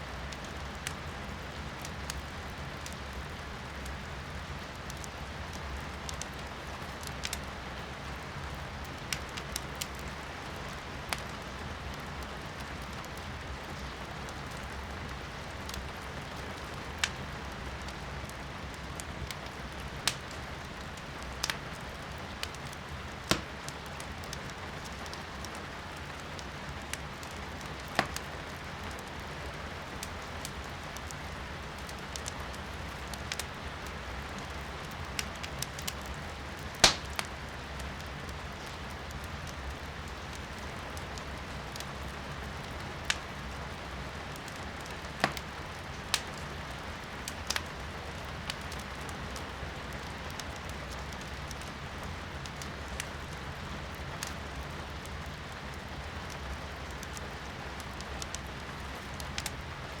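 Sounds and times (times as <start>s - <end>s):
fireplace crackling and popping: 0.0s - 60.0s.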